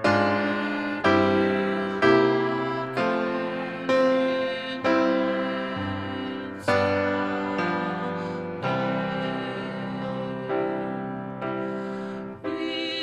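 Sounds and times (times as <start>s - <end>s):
mixed choir singing a hymn: 0.0s - 13.0s
piano chords: 0.0s - 13.0s.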